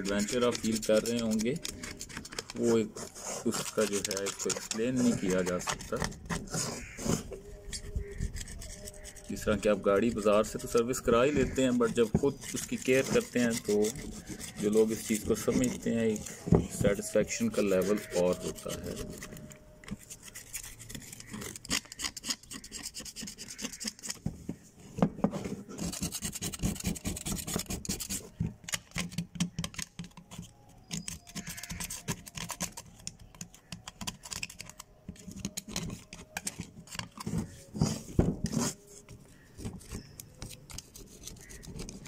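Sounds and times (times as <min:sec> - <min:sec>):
metal scraper scratching dirt off metal: 0:00.0 - 0:24.2, 0:25.7 - 0:39.1, 0:39.7 - 0:42.0.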